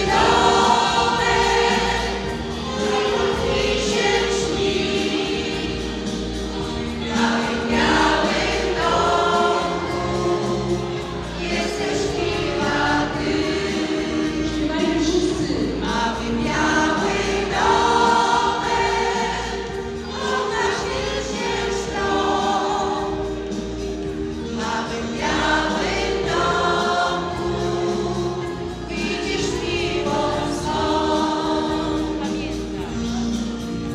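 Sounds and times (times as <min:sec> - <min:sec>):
women's choir singing: 0:00.0 - 0:33.9.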